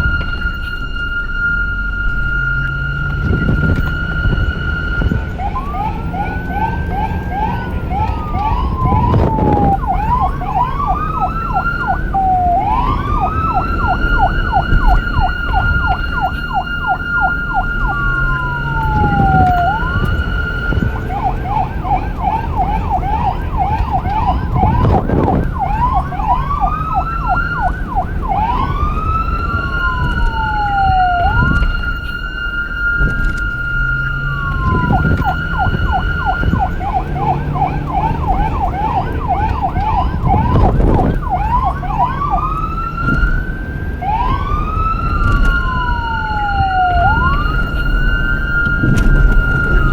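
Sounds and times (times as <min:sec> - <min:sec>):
police siren wail and yelp: 0:00.0 - 0:49.9.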